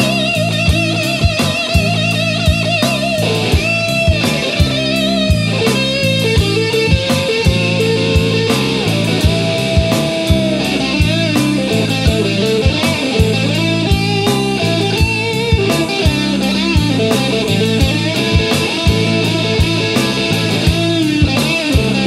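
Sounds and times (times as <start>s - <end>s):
bass guitar line: 0.0s - 22.0s
drum kit beat: 0.0s - 22.0s
electric guitar lead: 0.0s - 22.0s.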